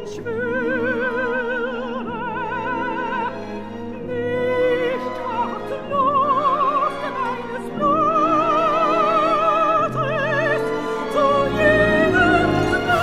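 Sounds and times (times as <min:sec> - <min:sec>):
operatic soprano singing: 0:00.0 - 0:13.0
orchestral accompaniment: 0:00.0 - 0:13.0.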